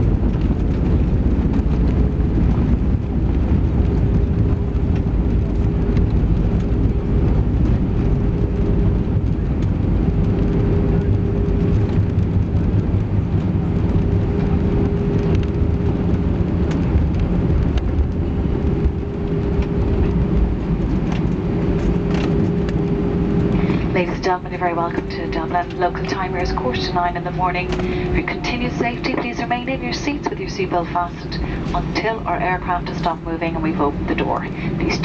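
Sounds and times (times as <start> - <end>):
jet engines at low power: 0.0 - 35.0
steady cabin hum: 0.0 - 35.0
wheels rumbling: 0.0 - 35.0.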